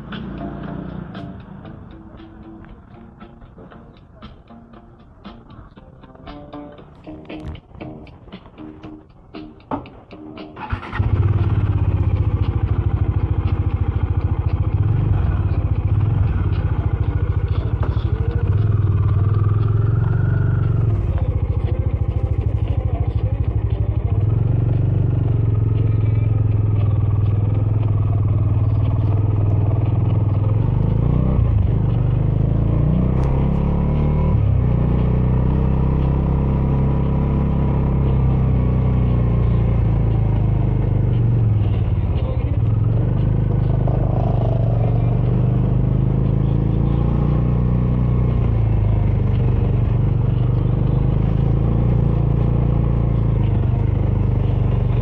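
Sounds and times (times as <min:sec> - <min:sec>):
motorcycle engine running: 0:10.6 - 0:55.0.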